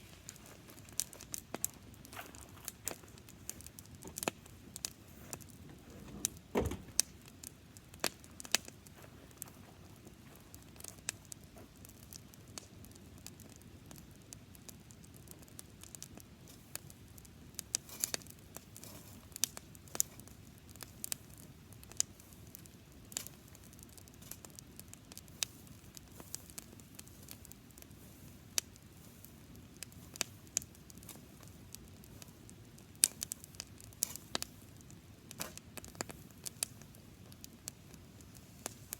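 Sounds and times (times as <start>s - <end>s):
faint steady hiss: 0.0s - 38.9s
grass fire crackling: 0.0s - 38.9s.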